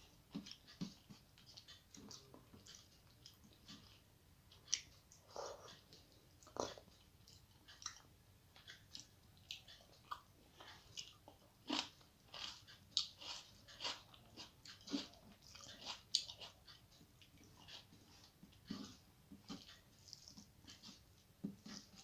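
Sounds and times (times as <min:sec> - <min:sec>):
wet chewing smacks and clicks: 0:00.3 - 0:22.0.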